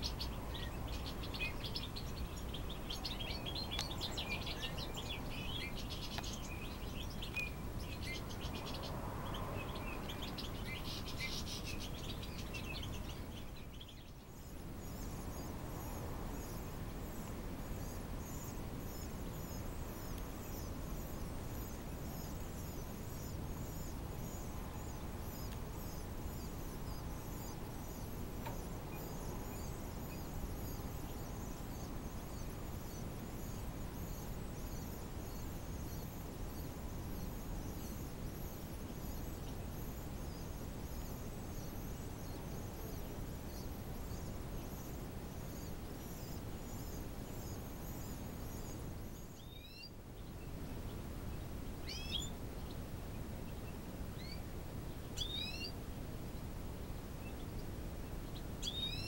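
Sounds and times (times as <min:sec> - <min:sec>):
low background hiss: 0:00.0 - 0:59.0
nestling birds begging chirps: 0:00.0 - 0:59.0.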